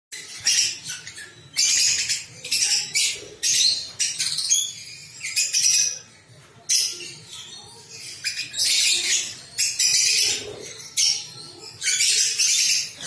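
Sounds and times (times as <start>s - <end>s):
lovebirds chirping shrilly: 0.1s - 13.0s.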